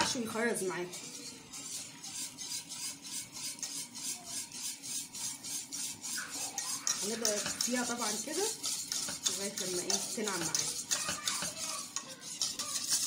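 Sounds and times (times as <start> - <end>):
whisk scraping metal pot: 0.0 - 13.0.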